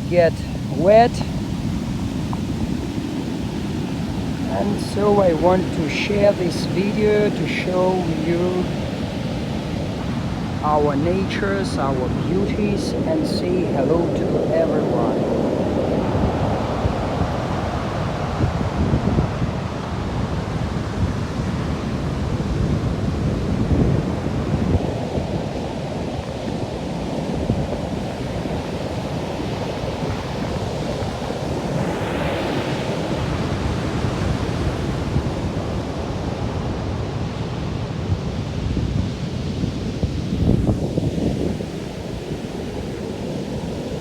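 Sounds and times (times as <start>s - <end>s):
waves breaking on shore: 0.0s - 44.0s
wind buffeting microphone: 0.0s - 44.0s.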